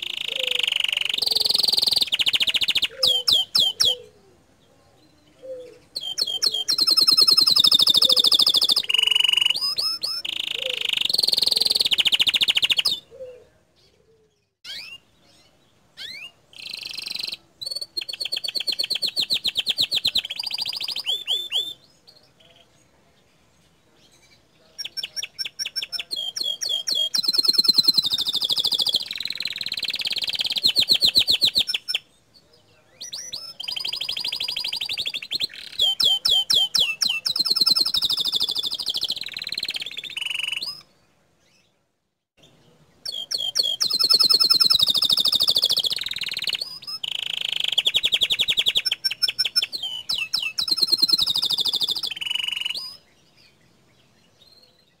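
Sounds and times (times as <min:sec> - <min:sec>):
canary singing trills: 0:00.0 - 0:41.7, 0:42.4 - 0:55.0.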